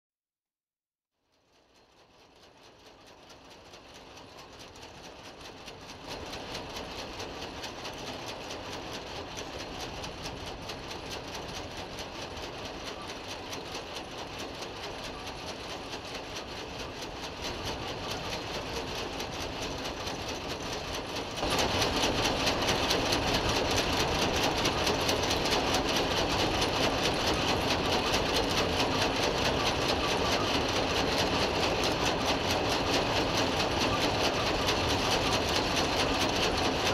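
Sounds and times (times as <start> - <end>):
conveyor machinery clattering: 2.8 - 36.9.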